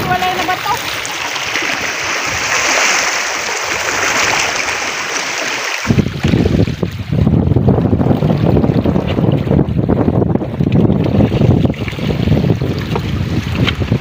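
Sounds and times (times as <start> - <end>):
seawater washing over rocks: 0.0 - 9.8, 10.5 - 14.0
wind rumbling on microphone: 0.0 - 14.0.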